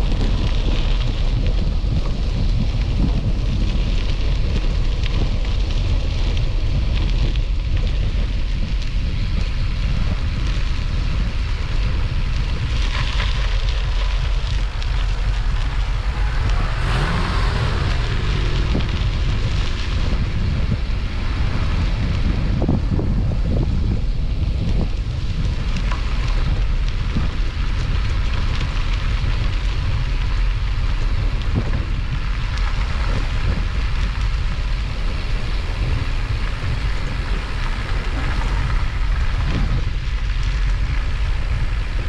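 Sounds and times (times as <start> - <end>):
moving vehicle noise: 0.0 - 42.0
wind buffeting microphone: 0.0 - 42.0.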